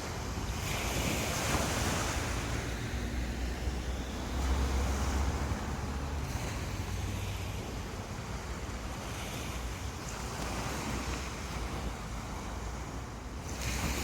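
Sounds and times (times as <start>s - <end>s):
sea waves washing onto beach: 0.0s - 14.0s
wind rumbling on microphone: 0.0s - 14.0s.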